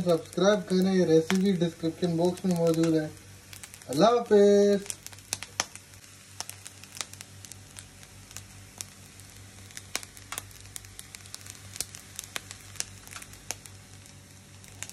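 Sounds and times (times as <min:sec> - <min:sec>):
fried rice crackling in a pan: 0:00.0 - 0:14.9
steady low hum: 0:00.0 - 0:14.9.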